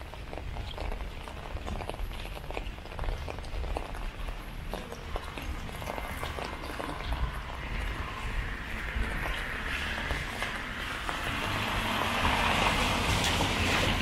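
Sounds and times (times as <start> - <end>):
rain tapping on umbrella: 0.0 - 14.0
steady low rumble: 0.0 - 14.0
footsteps on wet pavement: 0.1 - 14.0.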